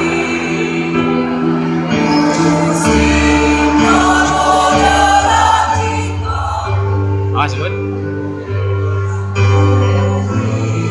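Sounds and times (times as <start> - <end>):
choir singing: 0.0 - 7.3, 8.5 - 10.9.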